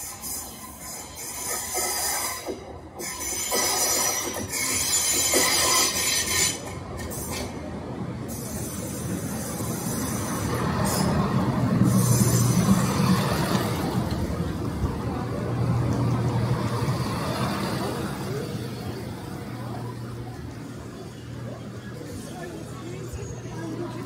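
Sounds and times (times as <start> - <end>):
diesel train engines droning: 0.0 - 24.0
train wheels rumbling on rails: 0.0 - 24.0.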